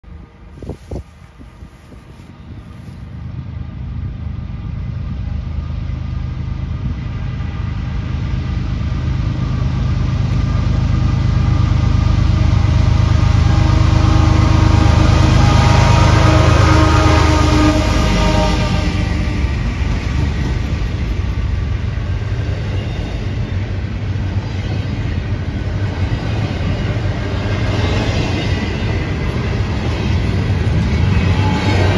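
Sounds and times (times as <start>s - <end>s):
diesel locomotive engine rumble: 0.0s - 31.9s.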